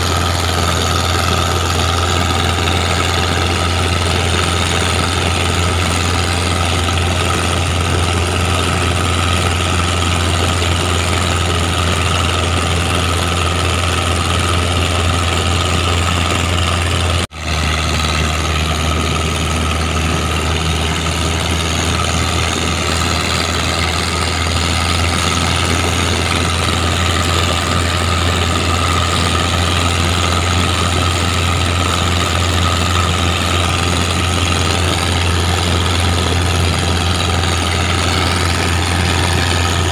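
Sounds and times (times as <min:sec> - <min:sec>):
boat diesel engine humming: 0:00.0 - 0:39.9.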